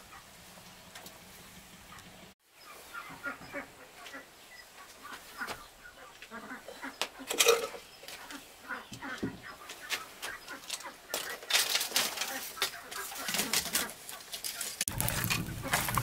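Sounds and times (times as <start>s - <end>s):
chickens clucking: 1.8s - 16.0s.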